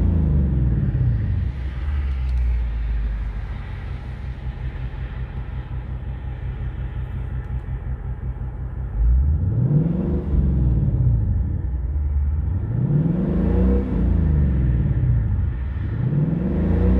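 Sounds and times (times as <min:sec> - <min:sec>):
car engine idling and revving: 0:00.0 - 0:16.9.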